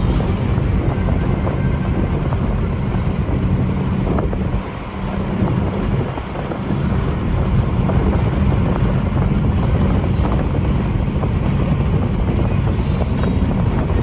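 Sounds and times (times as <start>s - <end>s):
car engine running: 0.0s - 14.0s
road noise: 0.0s - 14.0s
wind noise: 0.0s - 14.0s.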